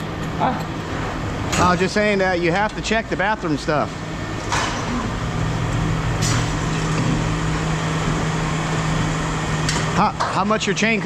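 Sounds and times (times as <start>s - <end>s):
low machine drone: 0.0s - 11.0s.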